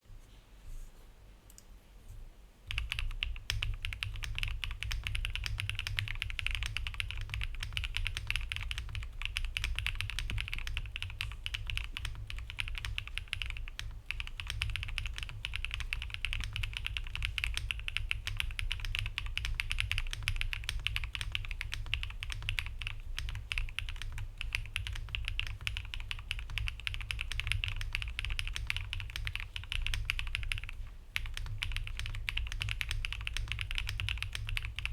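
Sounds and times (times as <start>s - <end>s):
mechanical keyboard typing: 2.7s - 34.9s.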